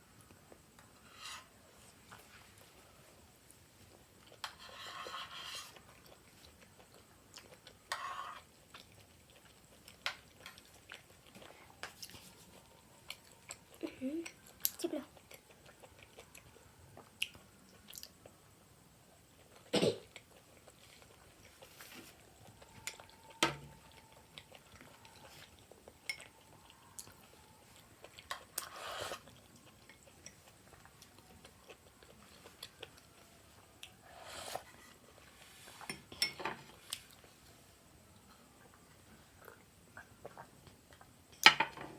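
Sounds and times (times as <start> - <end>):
chewing food: 2.0 - 37.6, 38.2 - 41.3.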